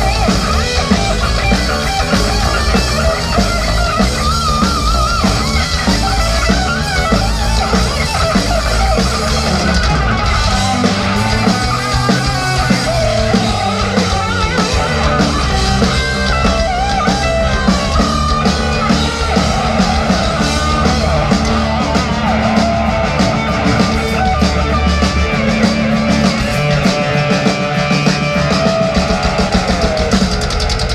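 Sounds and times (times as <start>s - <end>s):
bass guitar: 0.0s - 30.9s
drum kit: 0.0s - 30.9s
electric guitar lead lines: 0.0s - 30.9s.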